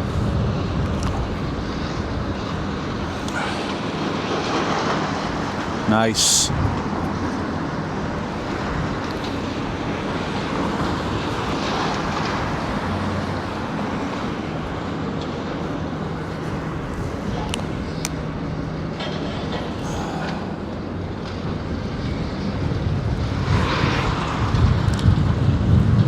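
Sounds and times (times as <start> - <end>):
wind noise on microphone: 0.0 - 19.6, 20.2 - 26.0
demolition machinery diesel drone: 0.0 - 26.0.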